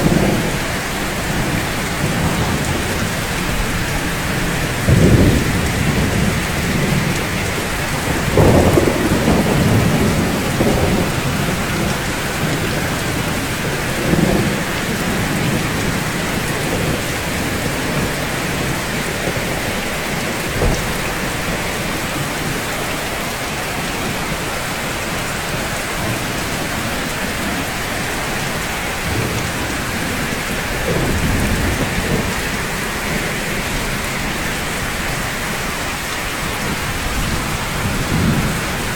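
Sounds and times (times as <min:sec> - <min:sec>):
heavy rain on rooftops: 0:00.0 - 0:38.9
thunder rumbling: 0:00.0 - 0:38.9.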